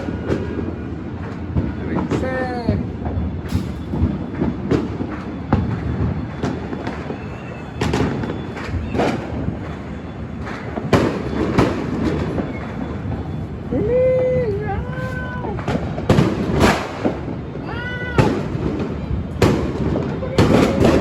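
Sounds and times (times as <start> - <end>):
firecracker bangs: 0.0 - 13.9, 14.5 - 21.0
distant explosions rumbling: 0.0 - 21.0.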